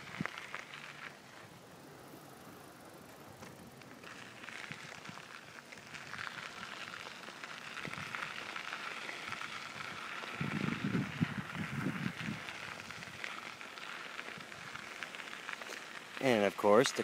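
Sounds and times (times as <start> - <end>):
bicycle tyres hissing on path: 0.0 - 17.0.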